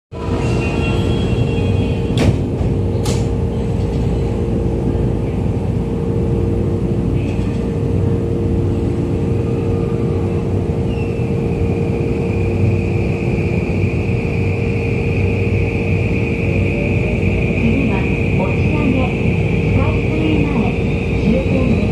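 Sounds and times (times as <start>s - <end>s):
train rumbling and humming: 0.1s - 21.9s.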